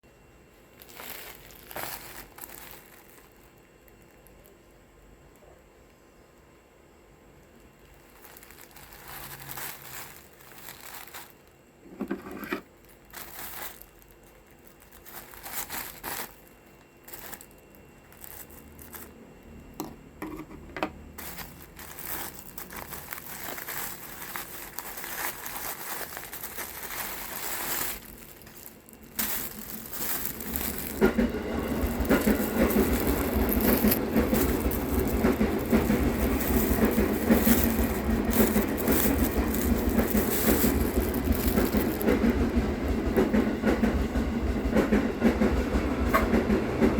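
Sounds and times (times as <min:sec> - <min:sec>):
plastic packaging crinkling: 0:00.6 - 0:04.7, 0:07.4 - 0:43.5.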